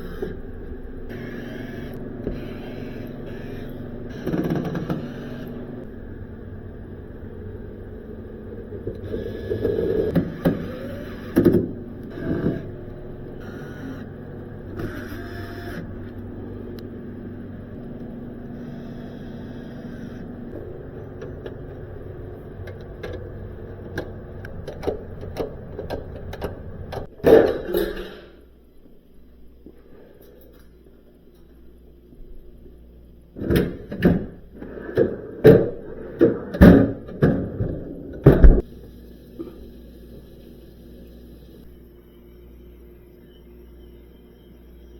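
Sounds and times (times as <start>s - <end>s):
steady mechanical hum: 0.0s - 44.9s.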